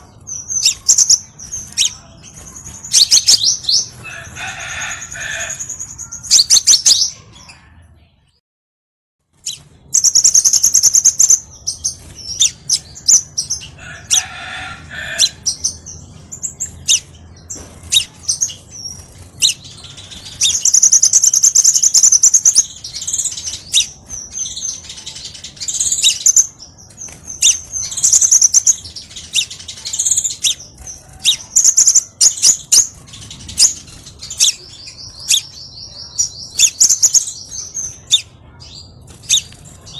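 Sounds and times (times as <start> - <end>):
bird chirps and trills: 0.0 - 8.0, 9.3 - 39.9.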